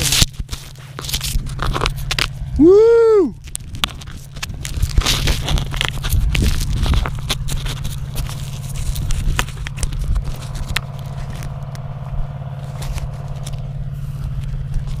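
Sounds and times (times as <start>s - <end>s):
handling scrapes clicks and knocks: 0.0s - 2.6s, 3.4s - 15.0s
steady low hum: 0.0s - 15.0s.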